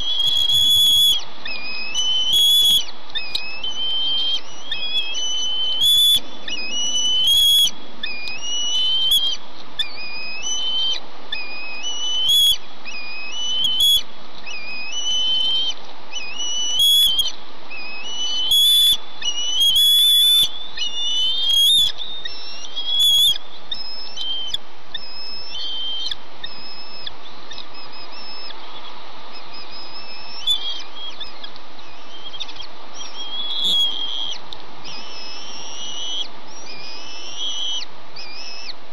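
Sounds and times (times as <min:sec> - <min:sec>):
eaglets whistling calls: 0:00.0 - 0:38.8
steady background hiss: 0:00.0 - 0:38.9.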